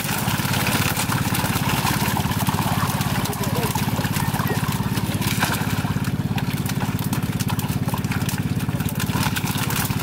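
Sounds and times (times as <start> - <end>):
small engine idling: 0.0 - 10.0
water splashing: 0.0 - 10.0.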